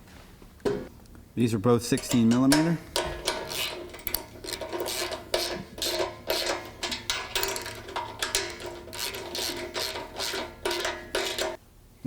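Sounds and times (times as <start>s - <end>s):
ratchet wrench ratcheting: 1.9s - 11.6s.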